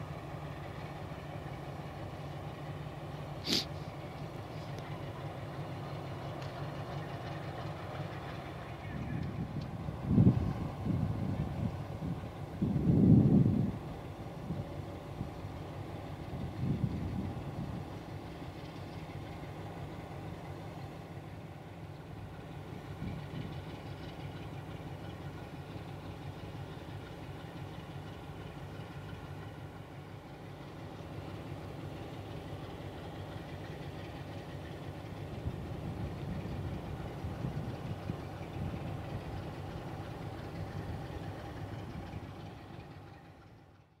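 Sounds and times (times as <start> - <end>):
locomotive diesel engine idling: 0.0 - 44.0.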